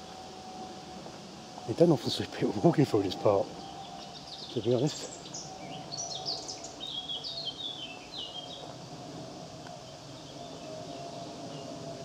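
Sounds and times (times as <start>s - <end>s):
faint outdoor hum: 0.0s - 12.0s
songbird chirping: 0.0s - 12.0s.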